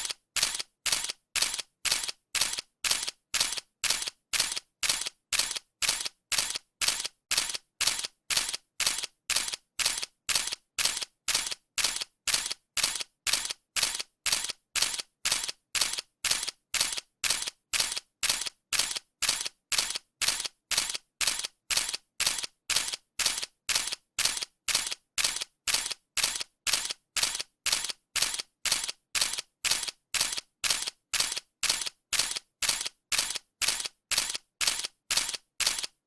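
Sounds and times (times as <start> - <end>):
camera shutter clicking: 0.0 - 36.0.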